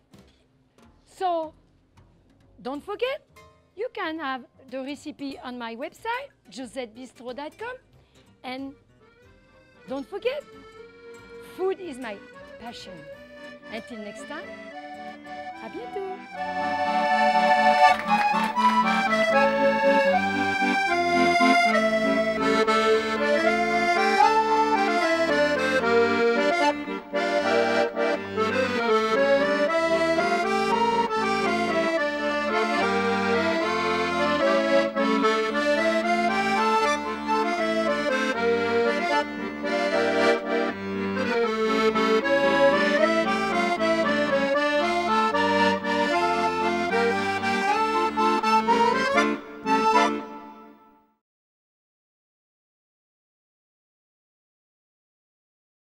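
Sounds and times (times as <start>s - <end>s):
accordion instrumental music: 3.8s - 51.2s.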